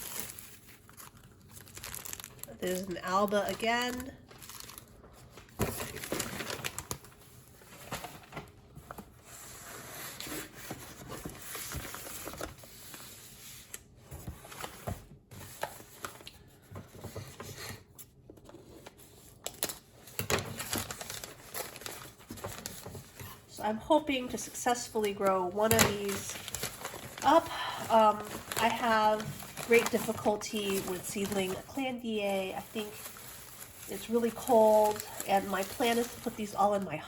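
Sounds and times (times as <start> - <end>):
wrapping rustling and crinkling: 0.0 - 37.0.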